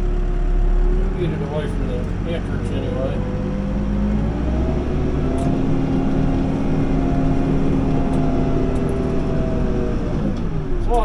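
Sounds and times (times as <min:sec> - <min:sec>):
diesel engine at raised revs: 0:00.0 - 0:11.0.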